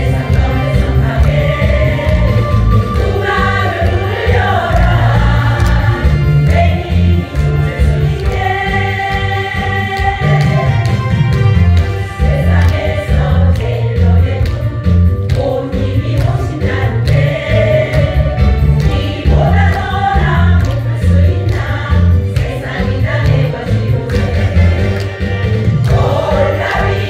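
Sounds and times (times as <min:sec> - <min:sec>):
women's choir singing: 0:00.0 - 0:11.0, 0:12.1 - 0:14.7, 0:15.3 - 0:27.0
musical accompaniment with bass line: 0:00.0 - 0:27.0.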